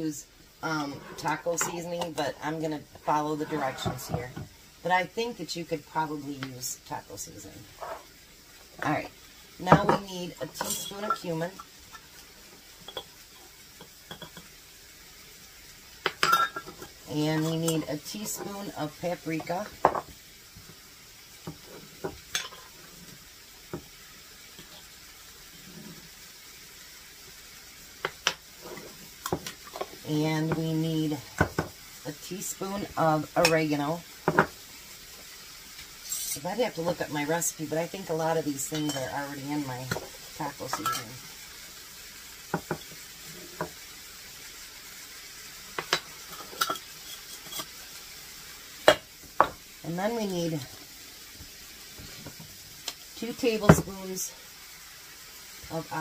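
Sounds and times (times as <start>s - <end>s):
chicken sizzling in a skillet: 0.0s - 56.0s.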